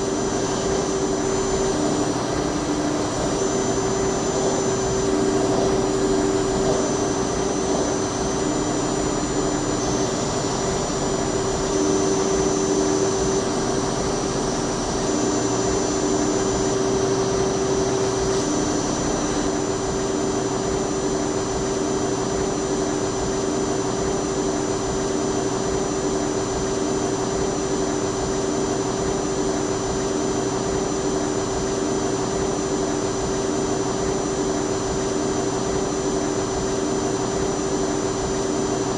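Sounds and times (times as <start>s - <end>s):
lathe machine whine: 0.0s - 38.9s
lower machine tone: 0.0s - 38.9s.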